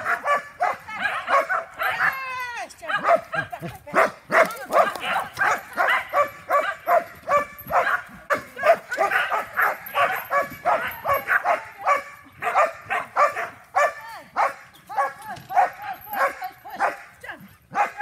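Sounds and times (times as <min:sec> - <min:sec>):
dog yipping and barking: 0:00.0 - 0:17.1, 0:17.7 - 0:18.0.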